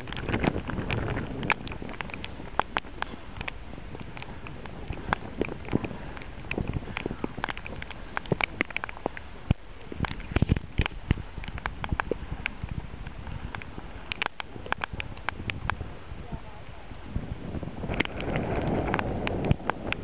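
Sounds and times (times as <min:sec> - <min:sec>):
choppy water: 0:00.0 - 0:20.0
rain drops ticking on deck: 0:00.0 - 0:20.0
wind hiss: 0:00.0 - 0:20.0.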